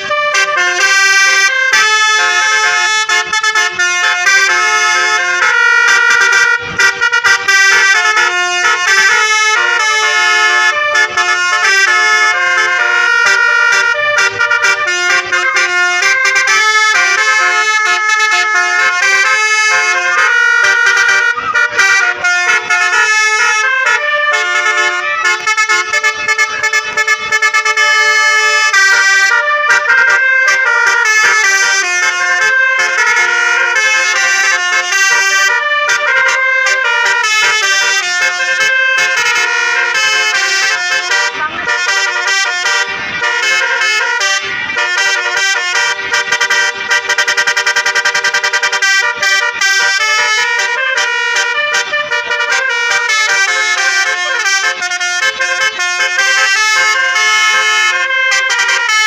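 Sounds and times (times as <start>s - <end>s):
musical air horns playing melody: 0.0s - 59.0s.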